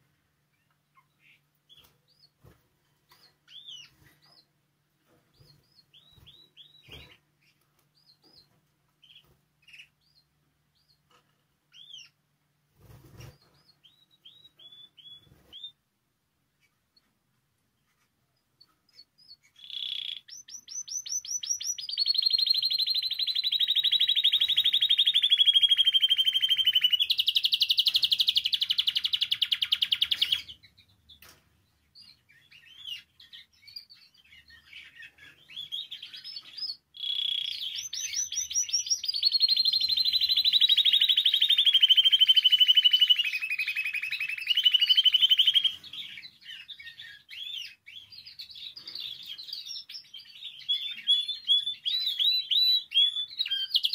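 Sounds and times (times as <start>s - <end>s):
soft canary chirps: 0.0s - 53.9s
canary trilling: 3.1s - 4.5s, 5.3s - 11.1s, 11.7s - 12.2s, 12.8s - 15.8s, 18.9s - 31.1s, 32.0s - 53.9s.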